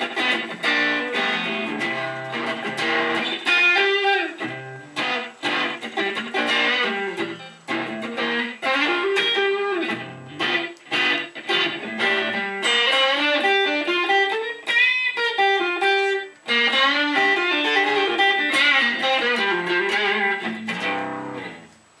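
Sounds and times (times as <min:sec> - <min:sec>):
overdriven electric guitar blues lead: 0:00.0 - 0:21.9.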